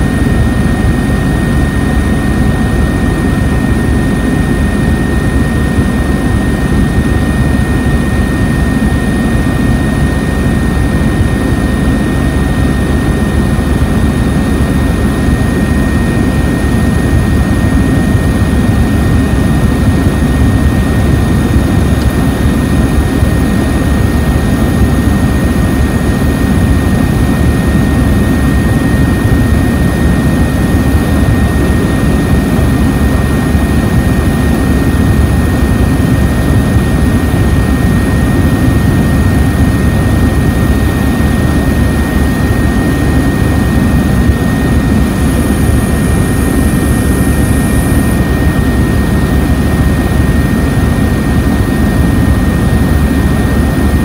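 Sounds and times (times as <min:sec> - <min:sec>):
aircraft engine drone: 0:00.0 - 0:54.0.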